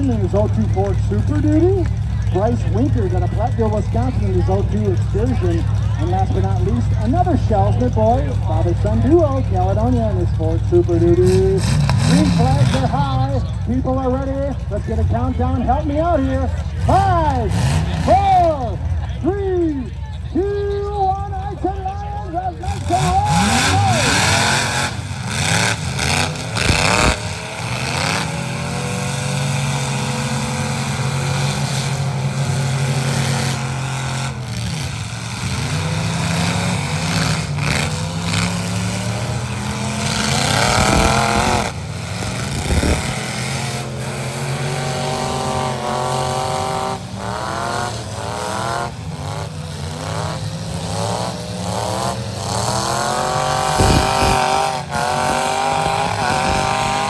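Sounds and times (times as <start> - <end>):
engines revving hard: 0.0 - 57.0.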